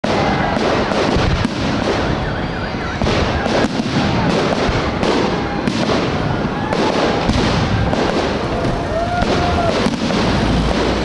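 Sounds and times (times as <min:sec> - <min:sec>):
fireworks crackling: 0:00.0 - 0:11.0
sharp fireworks bangs: 0:00.0 - 0:11.0.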